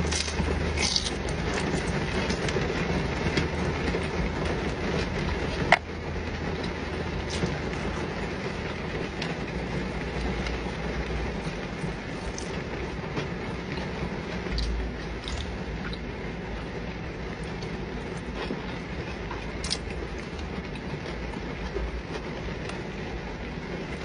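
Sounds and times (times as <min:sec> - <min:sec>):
heavy rain on a car roof: 0:00.0 - 0:24.0.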